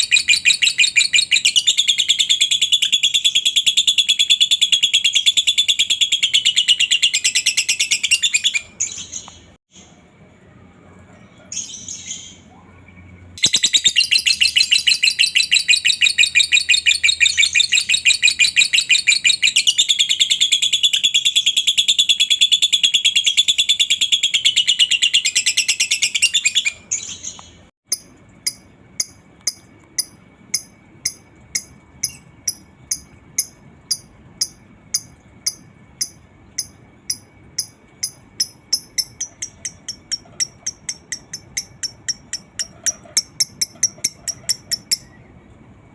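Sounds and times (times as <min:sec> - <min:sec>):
bird chattering trill: 0:00.0 - 0:09.6, 0:13.4 - 0:45.4
sharp bird chirps: 0:00.0 - 0:09.9, 0:11.7 - 0:45.4.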